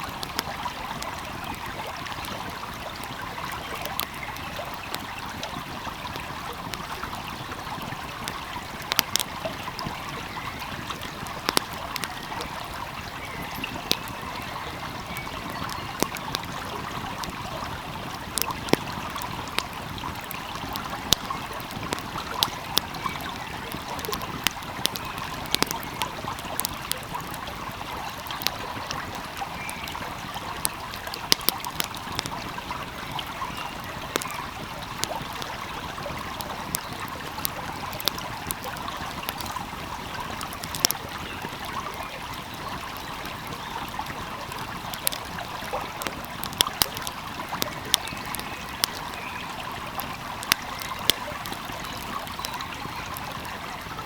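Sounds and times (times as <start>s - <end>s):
trickling stream: 0.0s - 54.0s
wood fire crackling: 0.0s - 54.0s.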